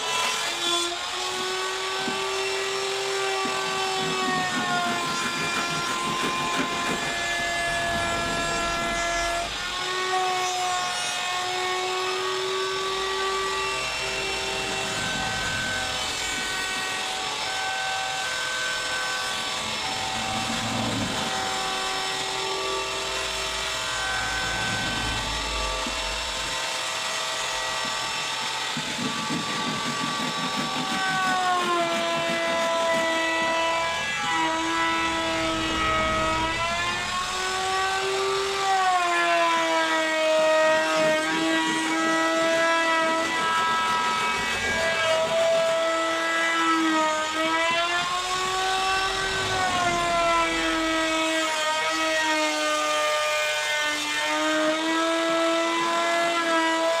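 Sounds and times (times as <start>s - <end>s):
power tool cutting wood: 0.0s - 57.0s.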